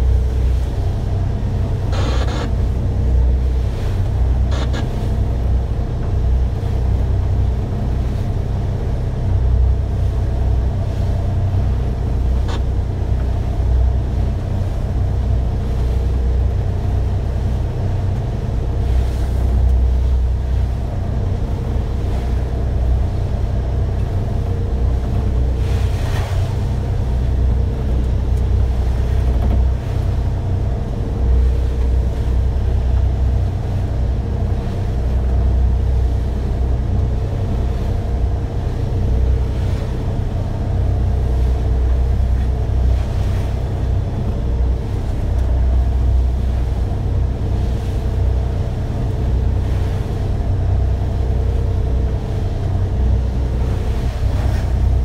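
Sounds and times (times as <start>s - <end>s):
boat diesel engine droning: 0.0s - 55.0s.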